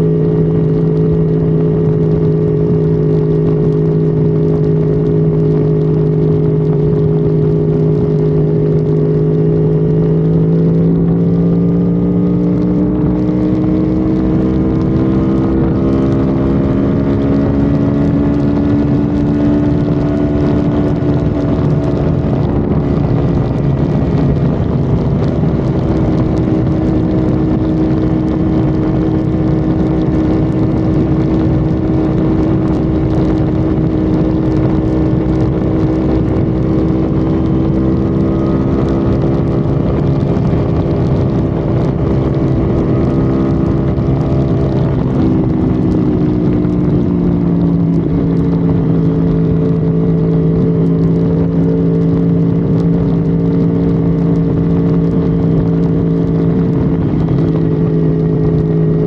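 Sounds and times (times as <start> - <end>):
car engine at high revs: 0.0 - 59.0
road and wind noise: 0.0 - 59.0.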